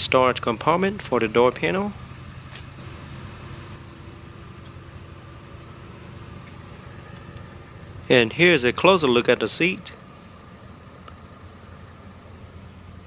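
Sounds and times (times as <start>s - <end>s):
faint steady tone: 0.0s - 13.0s
low mechanical hum: 0.0s - 13.0s.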